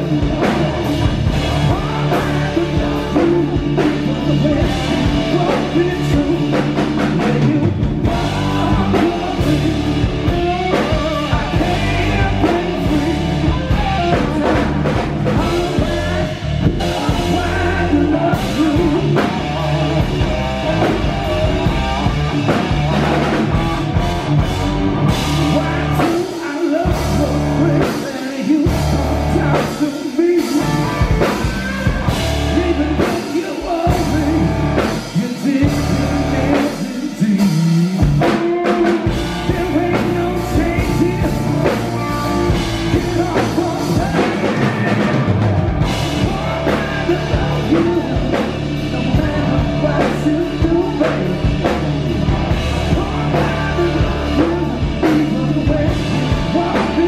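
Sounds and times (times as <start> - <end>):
drum kit: 0.0 - 57.0
electric bass: 0.0 - 57.0
electric guitar: 0.0 - 57.0
man singing: 0.0 - 57.0.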